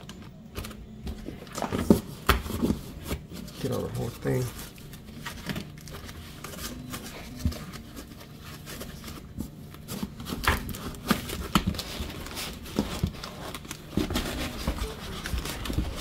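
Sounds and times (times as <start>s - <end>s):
cardboard and foam rubbing: 1.2s - 16.0s.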